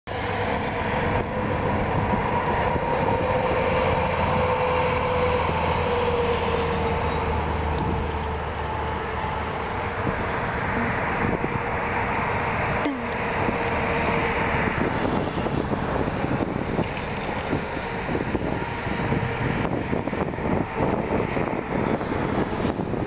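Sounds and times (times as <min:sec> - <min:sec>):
highway traffic rumble: 0:00.1 - 0:23.0
truck tyre whine: 0:00.1 - 0:23.0.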